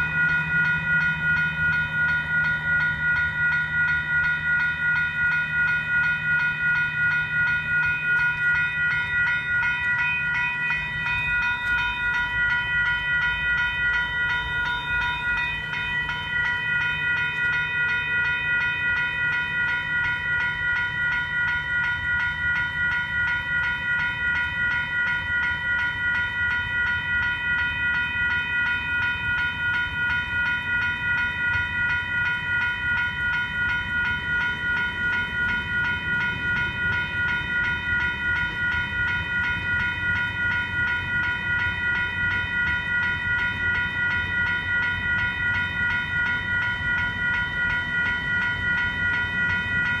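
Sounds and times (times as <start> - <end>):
railroad crossing bell dinging: 0.0 - 50.0.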